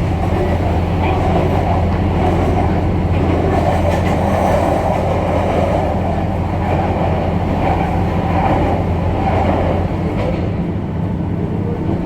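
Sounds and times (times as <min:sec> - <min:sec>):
railcar engine and wheels rumbling: 0:00.0 - 0:12.0.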